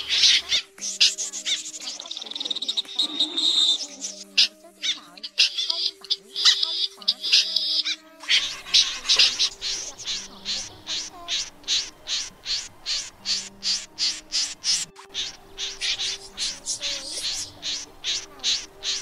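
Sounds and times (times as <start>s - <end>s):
snipe calling: 0.0s - 19.0s.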